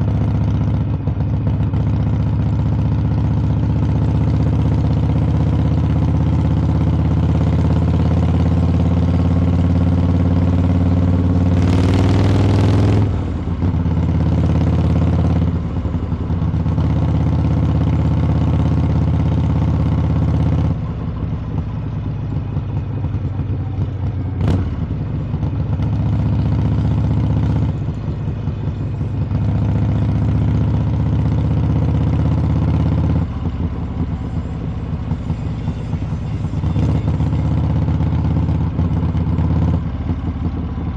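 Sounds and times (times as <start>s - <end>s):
motorcycle exhaust while riding: 0.0s - 40.9s.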